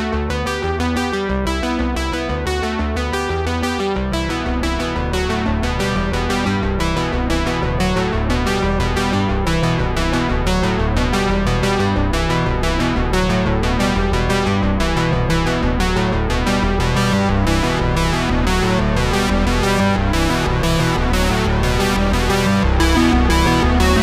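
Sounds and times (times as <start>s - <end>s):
synthesizer and keyboard music: 0.0s - 24.0s.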